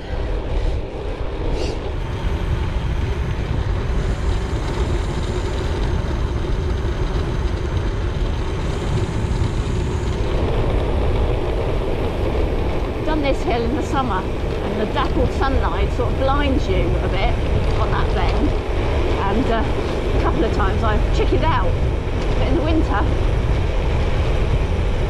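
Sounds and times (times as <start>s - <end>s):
bike tyres rolling on tarmac: 0.0s - 25.0s
wind buffeting microphone: 0.0s - 25.0s.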